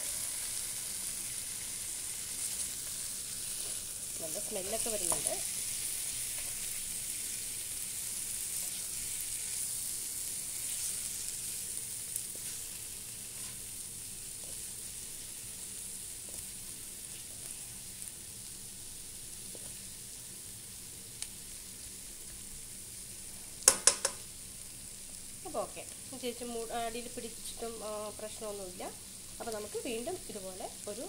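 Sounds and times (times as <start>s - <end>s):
chicken sizzling in a pan: 0.0s - 31.0s.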